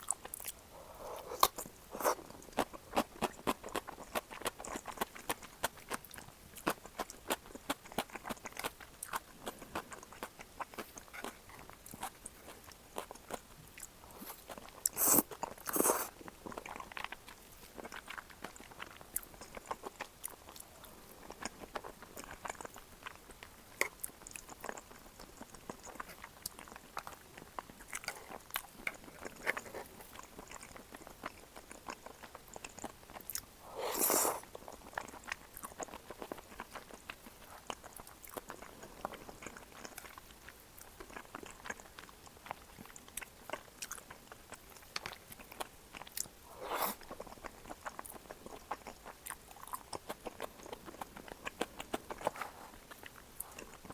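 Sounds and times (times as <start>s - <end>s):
soft chewing: 0.0s - 53.9s.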